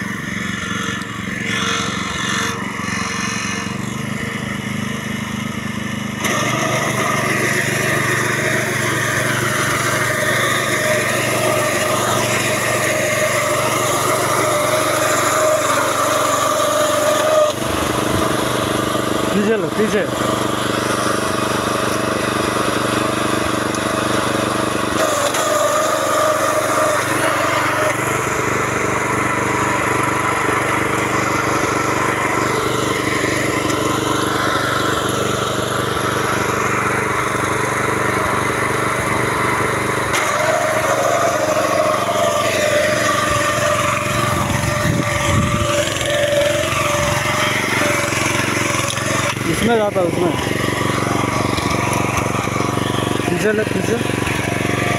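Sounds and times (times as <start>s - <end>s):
small petrol engine running: 0.0s - 54.9s.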